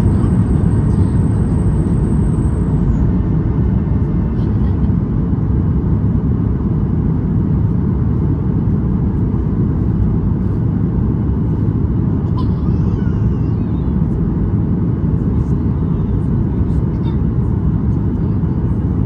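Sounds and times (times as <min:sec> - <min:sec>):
airplane cabin roar: 0:00.0 - 0:19.0.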